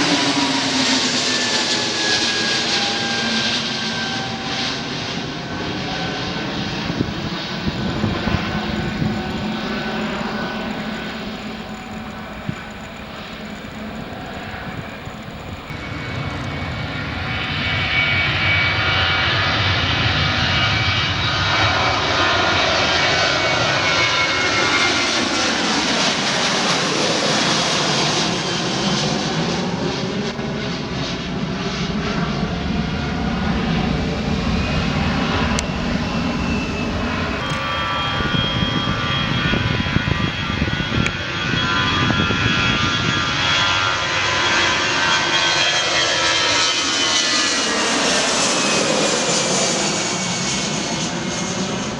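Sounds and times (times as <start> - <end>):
high whine of jet engine: 0.0 - 51.9
jet taking off: 0.0 - 51.9.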